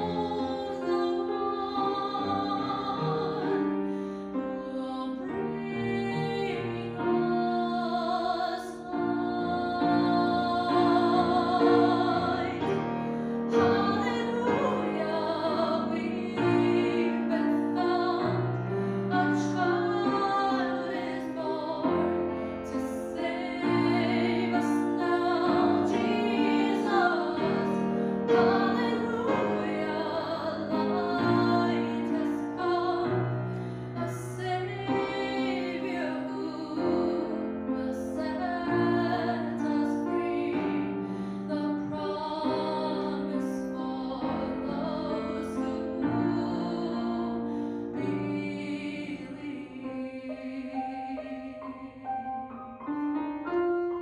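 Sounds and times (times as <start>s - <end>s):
woman singing with vibrato: 0.0s - 3.8s, 4.5s - 12.8s, 13.4s - 33.2s, 34.0s - 40.8s, 41.5s - 52.5s
grand piano: 0.0s - 54.0s.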